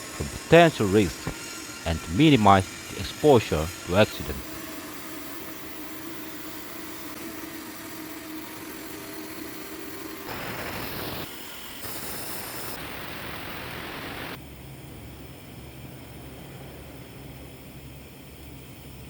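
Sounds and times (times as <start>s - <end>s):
machine hum and hiss: 0.0s - 19.0s.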